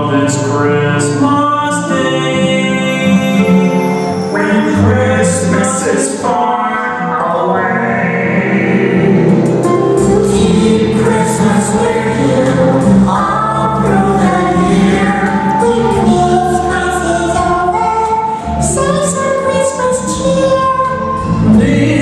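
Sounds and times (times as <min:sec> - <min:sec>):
group singing with instruments: 0:01.9 - 0:20.4, 0:21.1 - 0:22.0.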